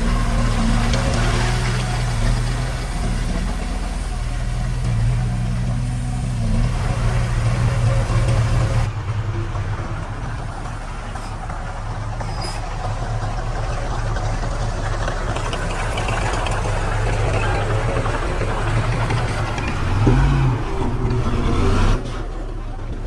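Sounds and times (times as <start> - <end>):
heavy diesel engine humming: 0.0 - 23.0.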